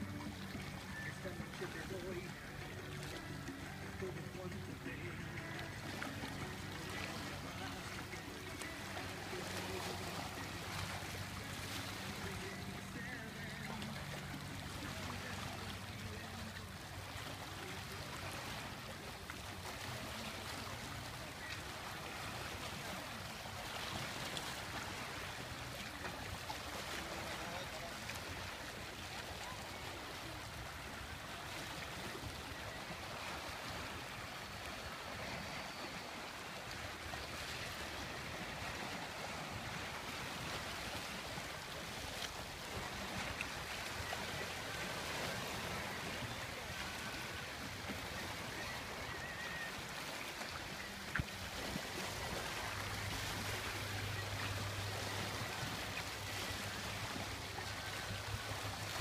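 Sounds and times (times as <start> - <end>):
waves lapping against rocks: 0.0 - 59.0.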